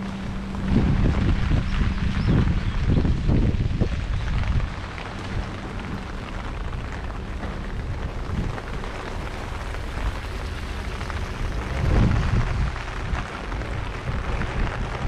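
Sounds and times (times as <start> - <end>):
steady rain on street: 0.0 - 15.0
wind buffeting microphone: 0.0 - 15.0.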